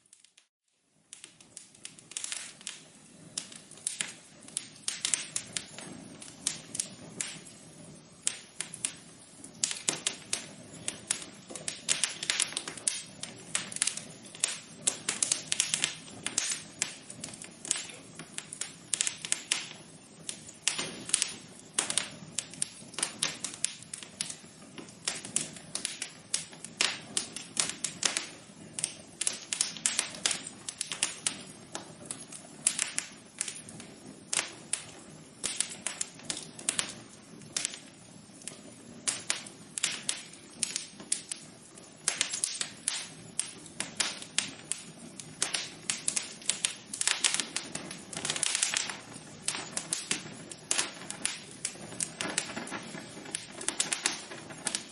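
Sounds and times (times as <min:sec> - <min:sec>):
soft fire hiss: 0:00.0 - 0:54.9
wood fire crackling: 0:00.0 - 0:54.9.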